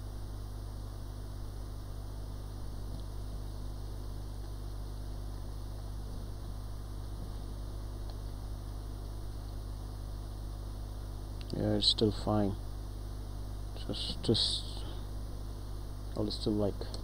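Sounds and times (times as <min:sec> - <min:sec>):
mains hum: 0:00.0 - 0:17.0
steady hiss: 0:00.0 - 0:17.0.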